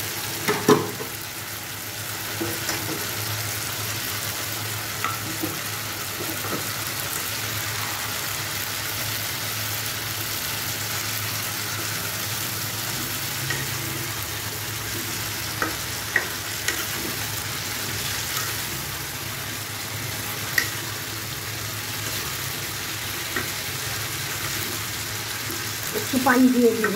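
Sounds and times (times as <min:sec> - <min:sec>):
food sizzling in a wok: 0:00.0 - 0:26.9.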